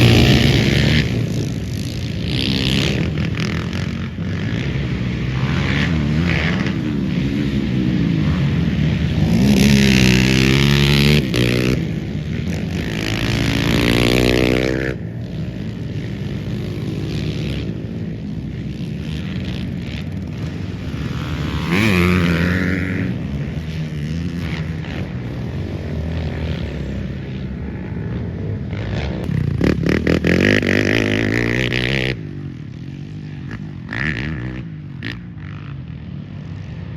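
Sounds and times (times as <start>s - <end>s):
quad engines revving and passing: 0.0s - 36.9s.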